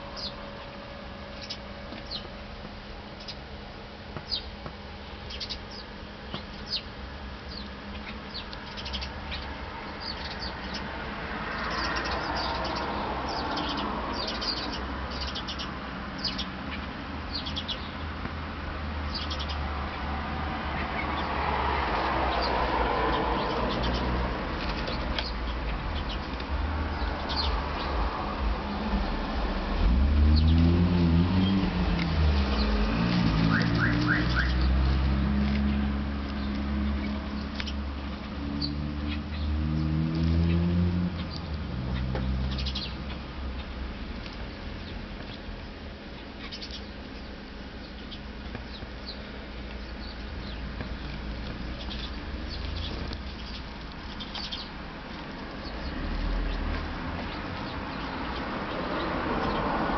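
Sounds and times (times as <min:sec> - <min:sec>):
small birds chirping: 0:00.0 - 0:02.4, 0:03.0 - 0:03.5, 0:04.1 - 0:59.9.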